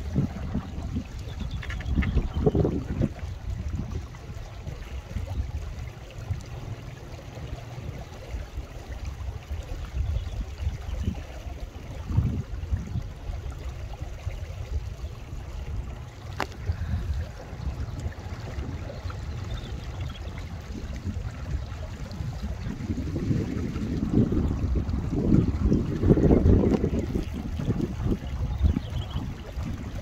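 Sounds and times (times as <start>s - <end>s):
wind buffeting the microphone: 0.0s - 30.0s.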